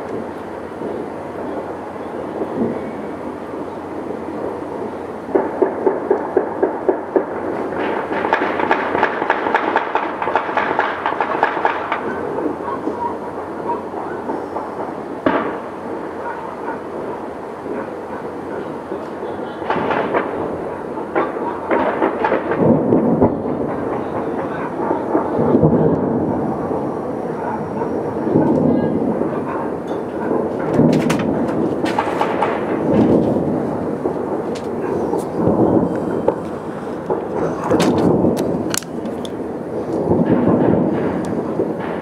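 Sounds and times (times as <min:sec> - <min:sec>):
sharp firework cracks: 0:00.0 - 0:26.9, 0:27.6 - 0:42.0
fireworks booming: 0:00.0 - 0:42.0.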